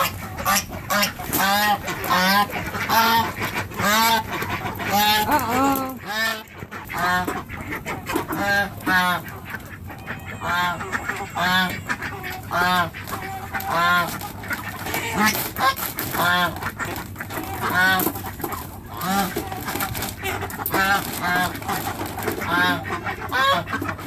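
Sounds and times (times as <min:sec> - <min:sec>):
ducks calling: 0:00.0 - 0:24.0.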